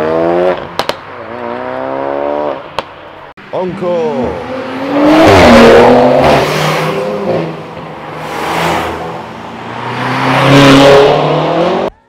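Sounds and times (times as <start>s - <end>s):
cars accelerating with engines revving: 0.0s - 3.2s, 4.2s - 12.0s.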